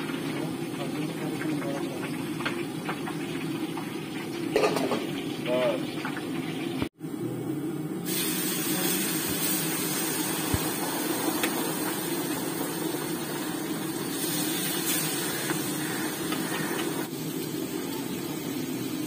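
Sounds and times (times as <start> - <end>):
fish sizzling in hot oil: 0.0 - 6.8, 8.0 - 19.0.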